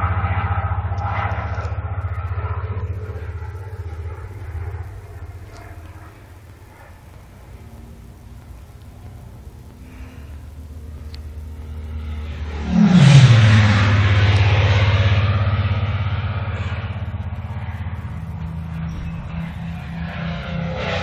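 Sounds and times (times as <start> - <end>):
propeller aircraft flying past: 0.0 - 21.0.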